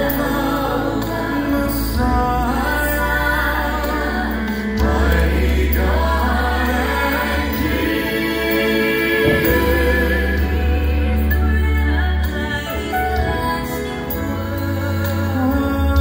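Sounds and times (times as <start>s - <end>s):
instrumental accompaniment with bass: 0.0s - 16.0s
vocal group singing in harmony: 0.0s - 16.0s.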